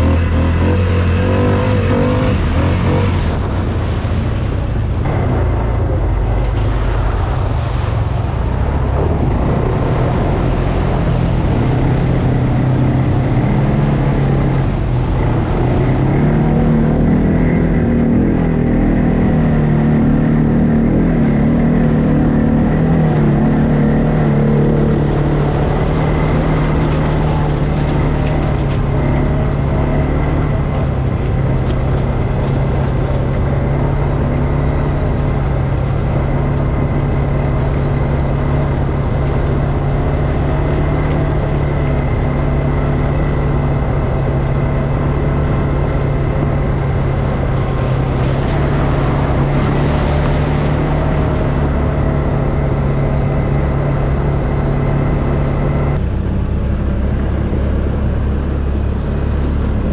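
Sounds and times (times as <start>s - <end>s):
atv engine running: 0.0s - 6.6s, 8.2s - 59.9s.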